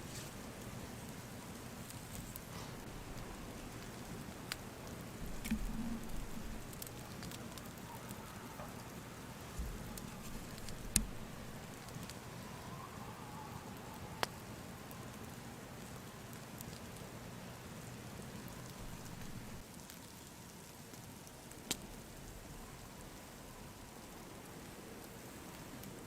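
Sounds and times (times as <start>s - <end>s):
campfire crackling and popping: 0.0s - 12.7s, 13.8s - 26.0s
snowstorm hiss: 0.0s - 26.0s.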